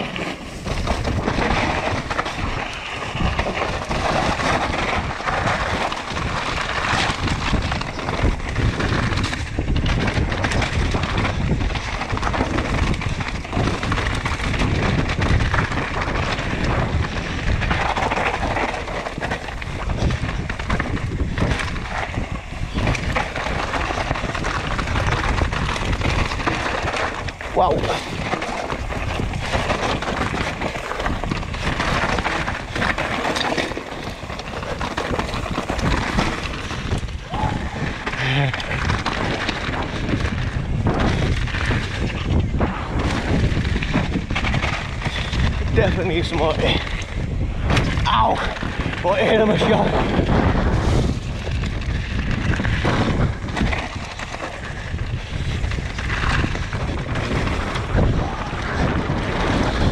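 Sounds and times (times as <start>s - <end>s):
bike rattling over bumps: 0.0s - 59.9s
bike tyres on dirt: 0.0s - 59.9s
wind buffeting microphone: 0.0s - 59.9s.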